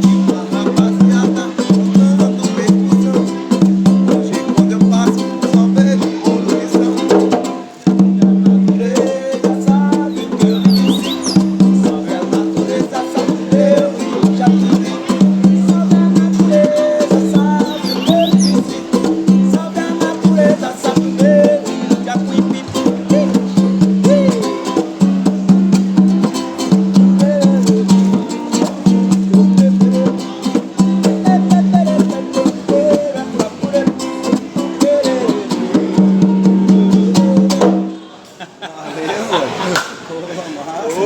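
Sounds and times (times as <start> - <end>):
berimbau music: 0.0 - 38.0.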